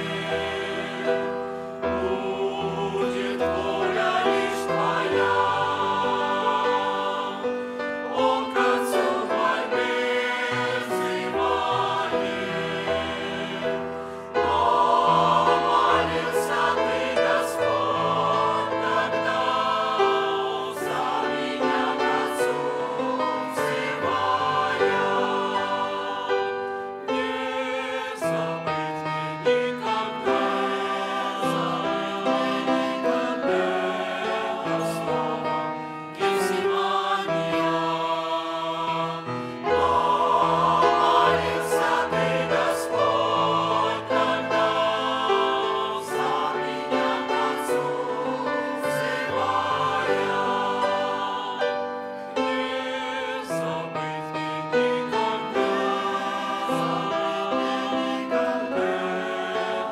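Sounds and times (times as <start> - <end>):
mixed choir singing a hymn: 0.0 - 59.9
piano accompaniment: 0.0 - 59.9.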